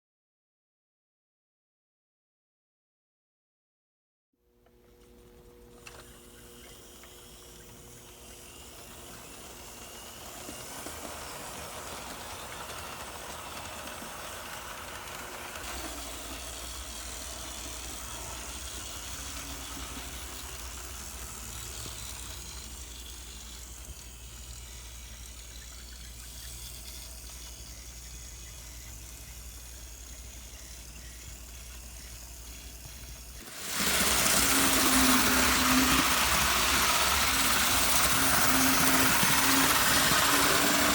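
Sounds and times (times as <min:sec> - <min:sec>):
model locomotive motor whirring: 0:04.6 - 0:40.9.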